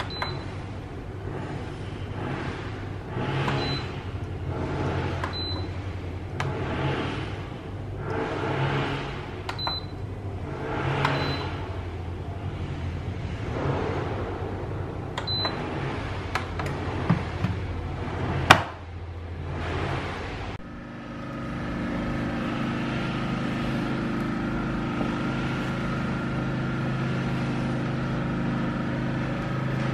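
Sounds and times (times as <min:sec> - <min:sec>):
appliance low hum: 0:00.0 - 0:29.9.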